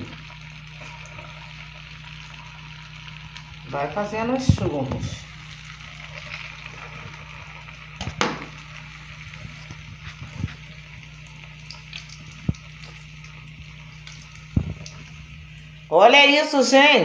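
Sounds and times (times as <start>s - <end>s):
dough frying in hot oil: 0.0s - 16.0s
low steady hum: 0.0s - 17.0s.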